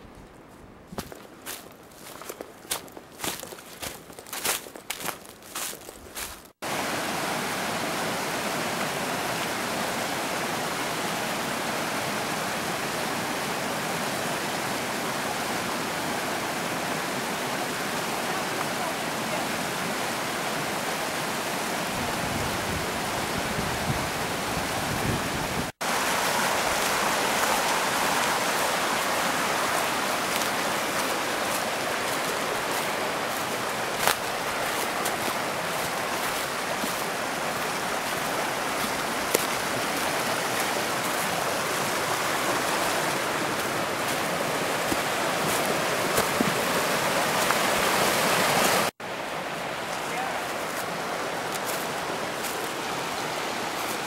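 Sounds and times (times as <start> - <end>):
stream rushing over rocks: 1.0 - 54.0.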